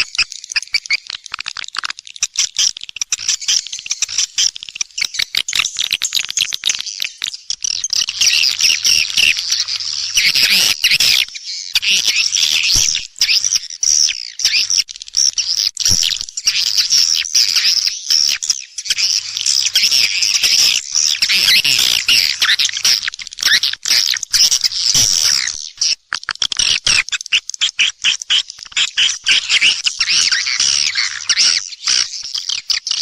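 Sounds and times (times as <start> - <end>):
swiftlets twittering and chirping: 0.0 - 33.0.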